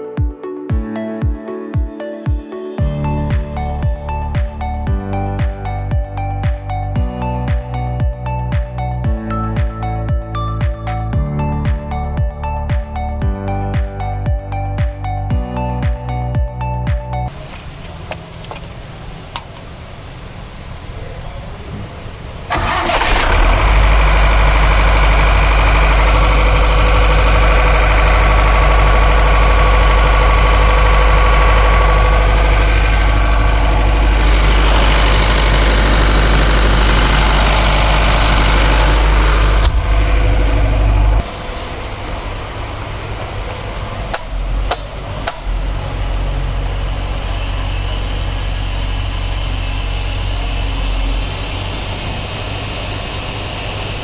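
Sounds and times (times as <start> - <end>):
diesel generator rumbling: 2.8 - 54.0.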